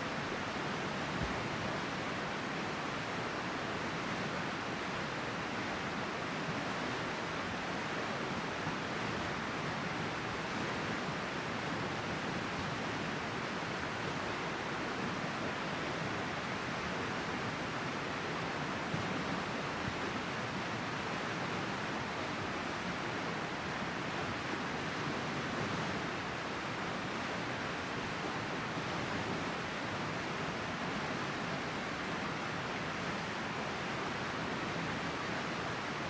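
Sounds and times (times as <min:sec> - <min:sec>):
river water rushing: 0:00.0 - 0:36.0.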